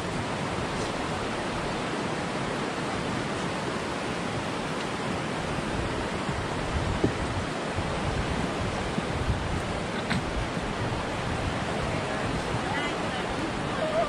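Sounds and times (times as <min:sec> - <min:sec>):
river running over rocks: 0:00.0 - 0:14.0.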